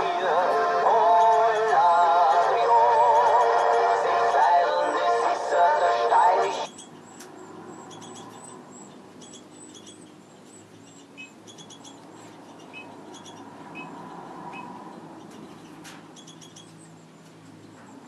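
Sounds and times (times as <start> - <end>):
small birds chirping: 0.1 - 5.1, 6.6 - 18.0.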